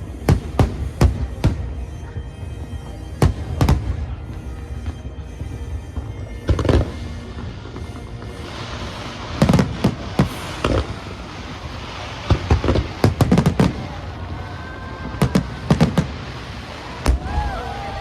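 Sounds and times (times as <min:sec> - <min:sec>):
fireworks bursting: 0:00.0 - 0:18.0
music: 0:00.0 - 0:18.0.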